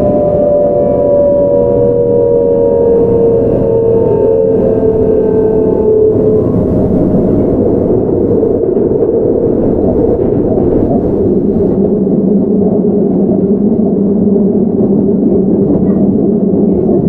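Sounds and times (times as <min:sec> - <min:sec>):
low electric hum: 0:00.0 - 0:17.0
train wheels rumbling on rails: 0:00.0 - 0:17.0.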